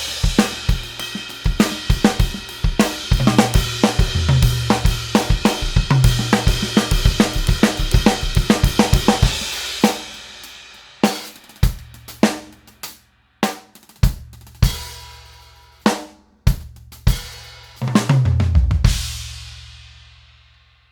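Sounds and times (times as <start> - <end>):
drum kit playing: 0.0 - 20.3.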